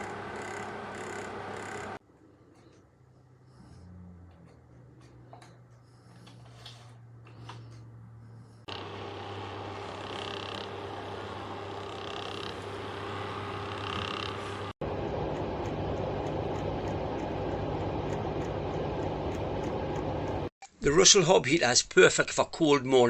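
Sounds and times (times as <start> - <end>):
fan heater running: 0.0 - 20.5.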